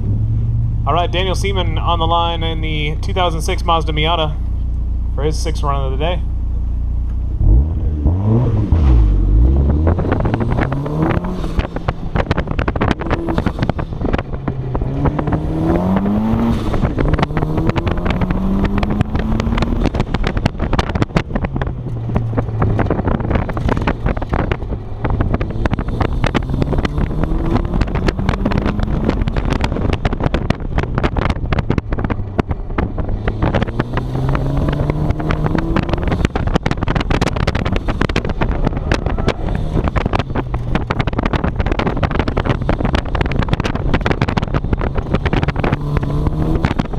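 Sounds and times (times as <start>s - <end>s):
car engine accelerating: 0.0s - 46.9s
wind buffeting: 7.4s - 46.9s.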